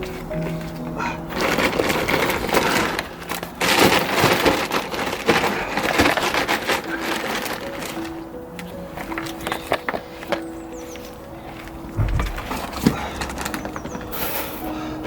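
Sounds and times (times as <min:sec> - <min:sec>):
quiet background music: 0:00.0 - 0:15.0
soil crunching and rustling: 0:00.0 - 0:15.0.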